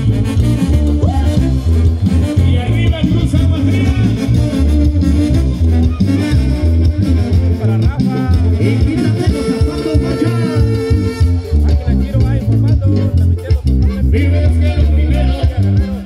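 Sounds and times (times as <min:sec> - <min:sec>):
latin dance music: 0:00.0 - 0:16.0.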